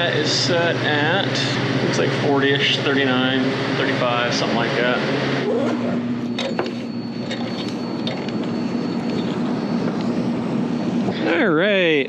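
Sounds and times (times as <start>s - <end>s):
refrigeration equipment hum: 0.0s - 12.0s.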